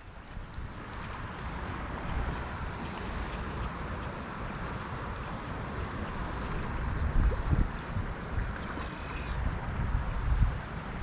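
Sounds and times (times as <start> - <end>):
river current rushing: 0.0 - 11.0
wind buffeting microphone: 0.0 - 11.0.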